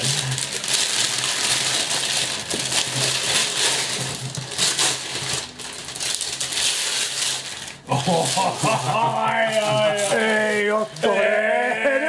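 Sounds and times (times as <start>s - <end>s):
wrapping paper tearing and crumpling: 0.0s - 12.0s.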